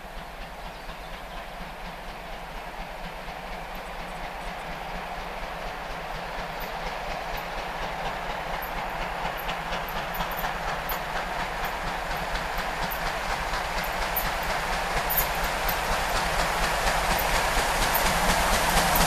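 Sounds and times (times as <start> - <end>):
rail noise: 0.0 - 19.0
steam locomotive exhaust beats: 0.0 - 19.0.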